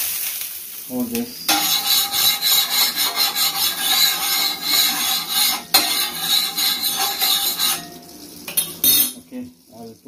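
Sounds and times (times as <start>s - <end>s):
hot griddle hissing while wiped: 0.0s - 8.3s.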